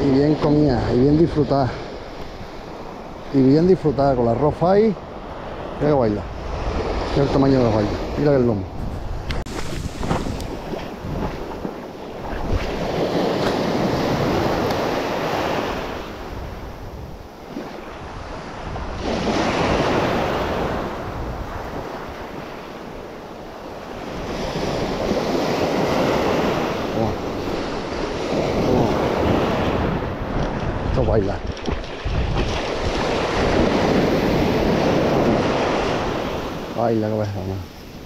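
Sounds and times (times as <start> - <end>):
waves breaking on beach: 0.0 - 38.0
wind on microphone: 0.0 - 38.0.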